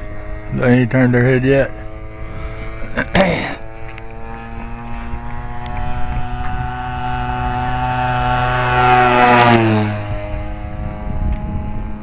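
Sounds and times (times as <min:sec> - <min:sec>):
model plane engine passing: 0:00.0 - 0:12.0.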